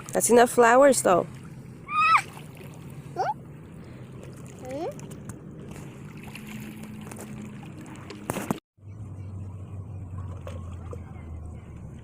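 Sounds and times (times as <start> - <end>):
steady outdoor noise: 0.0 - 12.0
vehicle engine humming: 0.0 - 12.0.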